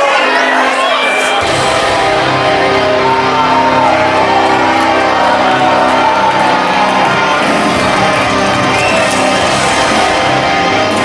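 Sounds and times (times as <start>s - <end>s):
wrestling entrance music: 0.0s - 11.0s.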